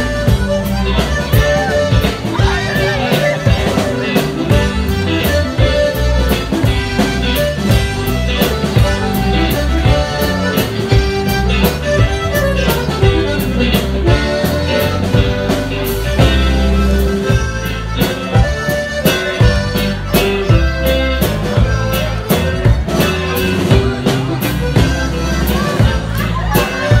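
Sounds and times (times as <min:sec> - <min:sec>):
drum beat: 0:00.0 - 0:27.0
guitars: 0:00.0 - 0:27.0.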